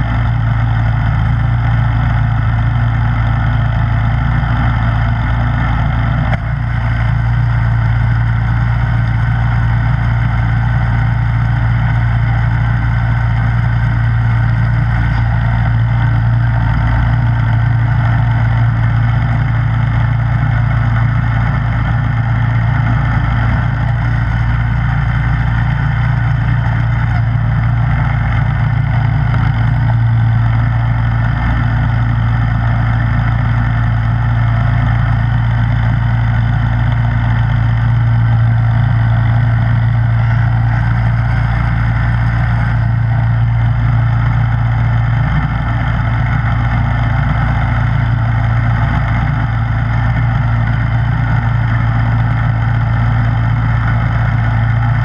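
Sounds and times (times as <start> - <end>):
snowblower engine humming: 0.0 - 55.0.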